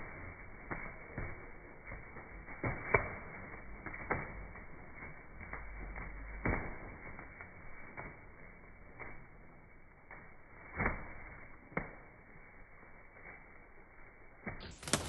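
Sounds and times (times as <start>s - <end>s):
pigeon wings slapping: 0.0s - 15.0s.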